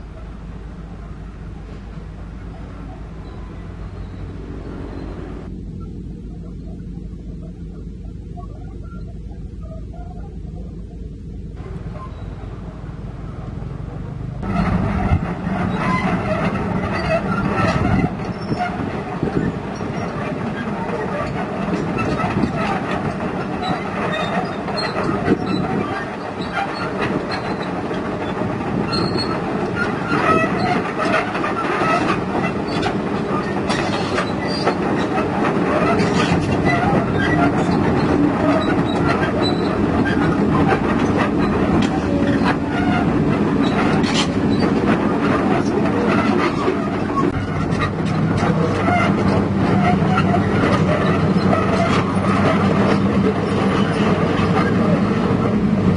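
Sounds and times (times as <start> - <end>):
diesel engine: 0.0 - 55.9
excavator tracks clanking and squealing: 0.0 - 55.9.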